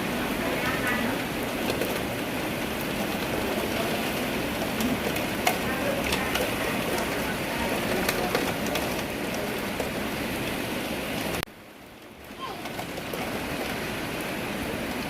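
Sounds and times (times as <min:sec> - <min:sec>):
rain falling: 0:00.0 - 0:15.0
raindrops pattering on surfaces: 0:00.0 - 0:15.0.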